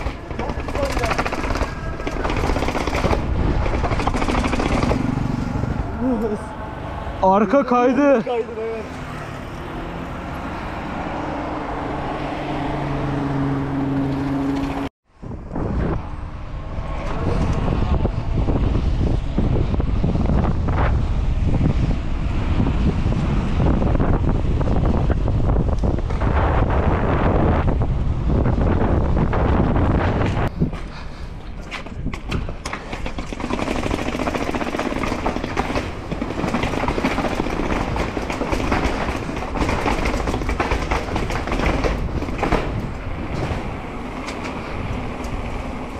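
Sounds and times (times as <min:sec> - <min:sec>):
bike tyre noise: 0:00.0 - 0:06.6, 0:14.1 - 0:45.9
wind noise: 0:00.0 - 0:08.2, 0:09.0 - 0:45.9.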